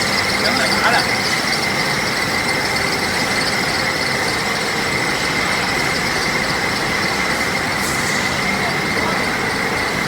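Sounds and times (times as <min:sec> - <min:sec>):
wire drawing machine running: 0:00.0 - 0:10.0.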